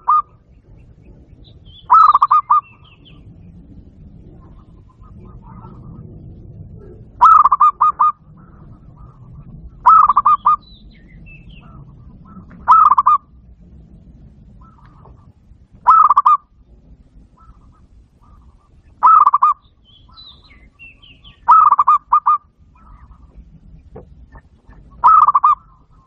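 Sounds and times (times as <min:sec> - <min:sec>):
dove cooing: 0:00.0 - 0:13.4, 0:14.5 - 0:16.5, 0:17.3 - 0:23.6, 0:24.2 - 0:26.0.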